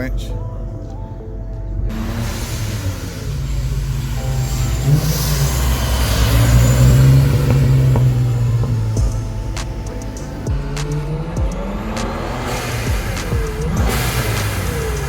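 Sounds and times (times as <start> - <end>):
car engine driving close by: 1.8 - 15.0.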